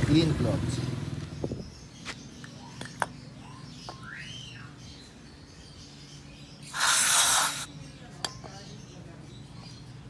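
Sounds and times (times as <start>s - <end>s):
bird chirp: 0.1s - 10.0s.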